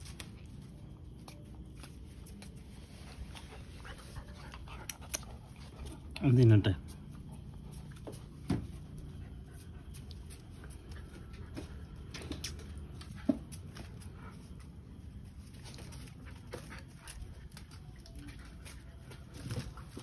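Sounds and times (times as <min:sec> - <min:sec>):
low background noise: 0:00.0 - 0:20.0
puppies scuffling on paving: 0:00.0 - 0:20.0.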